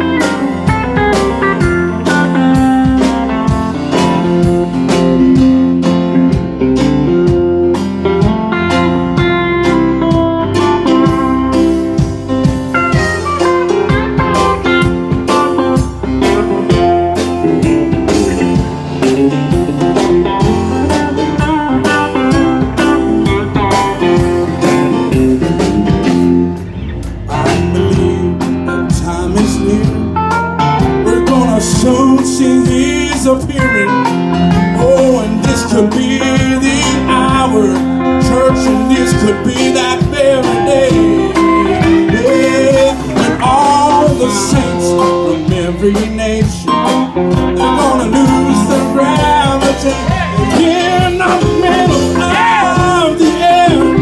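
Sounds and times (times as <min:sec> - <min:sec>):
electric guitar lead: 0:00.0 - 0:54.0
gospel band playing: 0:00.0 - 0:54.0.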